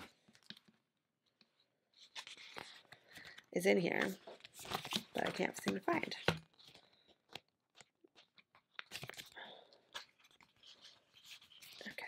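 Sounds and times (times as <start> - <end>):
paper pages rustling: 1.5 - 12.0.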